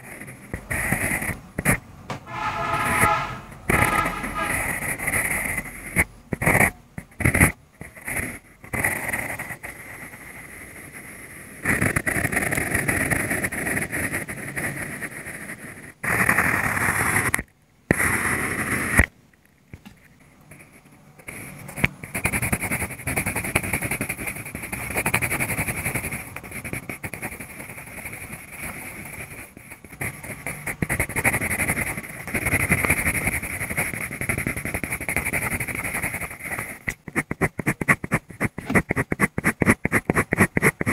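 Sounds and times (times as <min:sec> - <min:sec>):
pencil scratching on paper: 0:00.0 - 0:19.1, 0:20.2 - 0:40.9.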